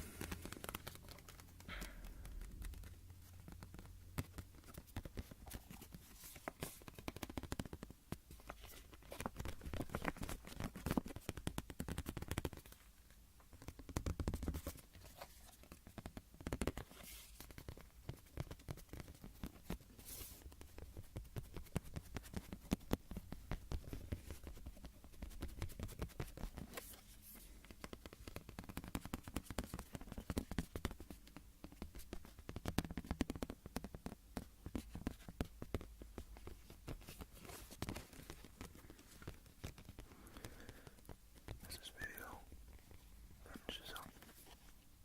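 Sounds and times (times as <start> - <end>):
tapping and scratching on object: 0.2 - 44.7.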